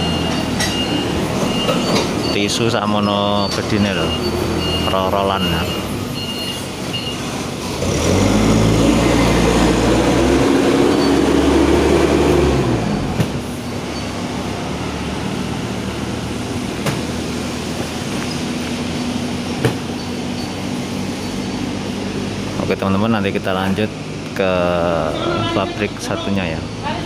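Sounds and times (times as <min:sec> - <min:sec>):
forklift engine revving: 0:00.0 - 0:27.0.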